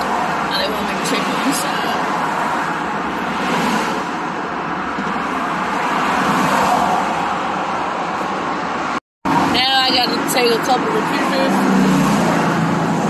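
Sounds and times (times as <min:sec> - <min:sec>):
road traffic rushing by: 0:00.0 - 0:13.0.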